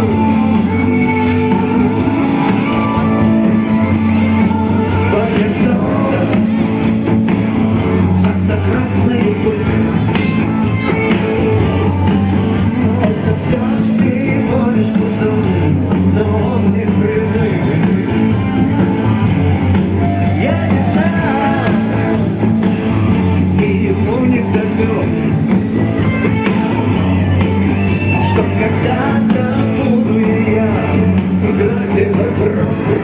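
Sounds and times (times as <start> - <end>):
bass line: 0.0 - 33.0
electric guitar: 0.0 - 33.0
rock band playing: 0.0 - 33.0.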